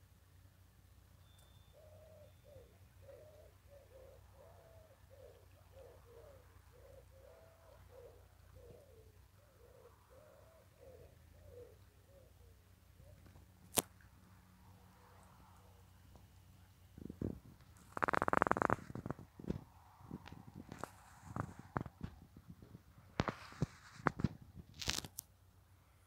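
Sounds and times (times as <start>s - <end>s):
faint low bird calls: 1.0s - 25.1s.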